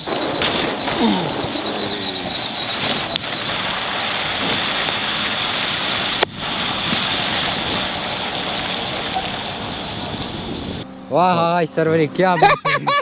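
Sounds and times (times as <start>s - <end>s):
steady rushing noise: 0.0s - 12.4s.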